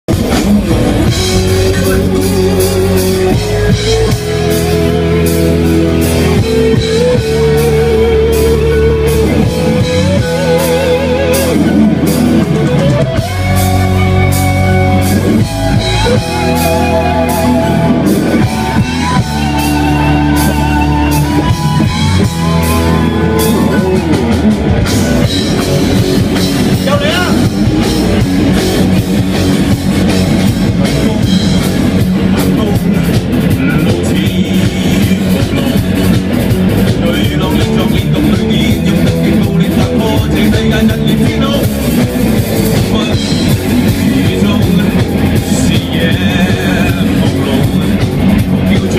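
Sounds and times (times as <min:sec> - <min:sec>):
rock band playing live: 0:00.0 - 0:48.9
lead guitar melody: 0:00.1 - 0:48.9.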